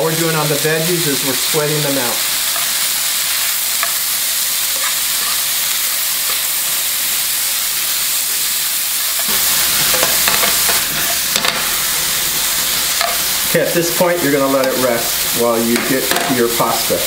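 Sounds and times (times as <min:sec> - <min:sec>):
meat and vegetables sizzling in pan: 0:00.0 - 0:17.0
metal tongs scraping a pan: 0:01.2 - 0:08.4, 0:09.0 - 0:16.5.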